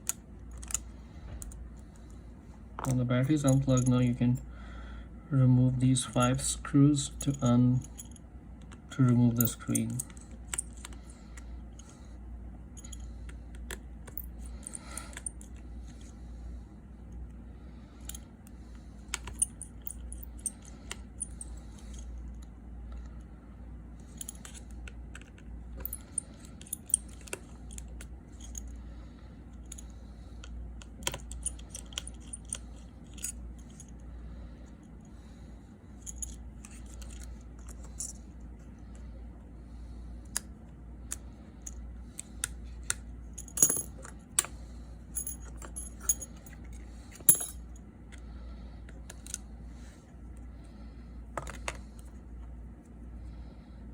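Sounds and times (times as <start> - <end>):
low hum: 0.0 - 53.9.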